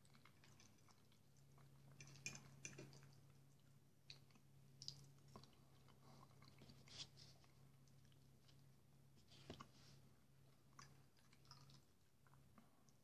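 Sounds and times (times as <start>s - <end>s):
chewing and mouth clicks: 0.0s - 8.3s, 10.5s - 13.0s
low steady hum: 0.0s - 13.0s.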